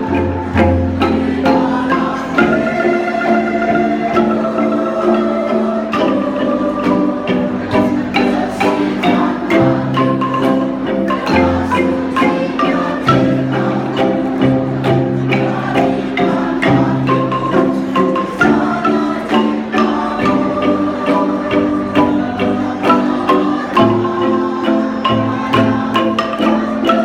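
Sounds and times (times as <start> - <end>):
wooden xylophone ensemble playing: 0.0 - 27.0.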